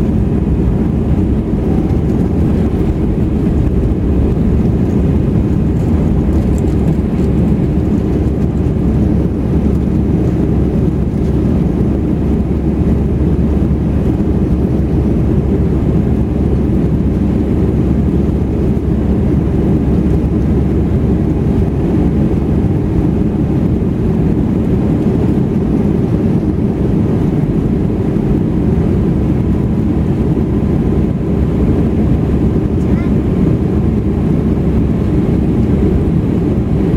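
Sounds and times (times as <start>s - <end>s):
jet engines roaring in cabin: 0.0s - 36.9s.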